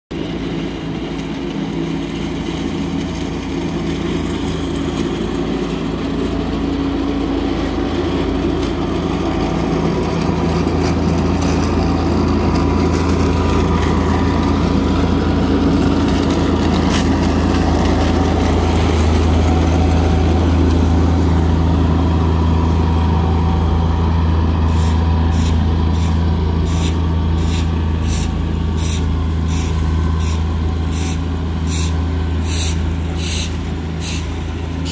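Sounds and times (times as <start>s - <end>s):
ride-on mower engine hum: 0.1s - 34.9s.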